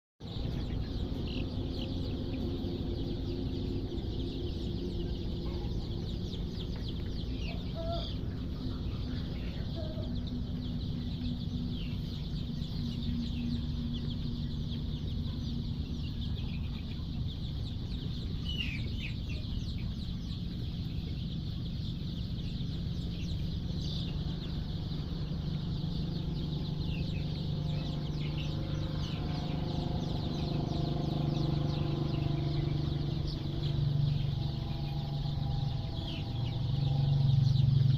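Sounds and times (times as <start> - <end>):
chickens clucking: 0.2 - 37.9
steady low hum: 0.2 - 37.9.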